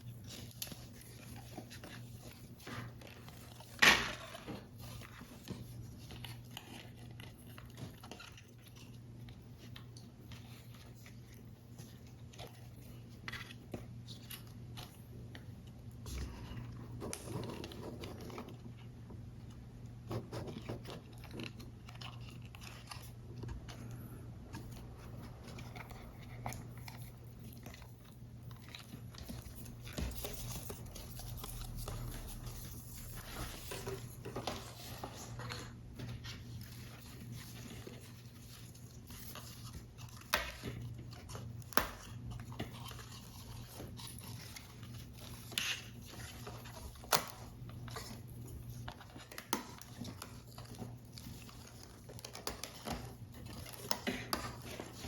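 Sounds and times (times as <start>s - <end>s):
card stock clicks and crinkles: 0.0s - 55.0s.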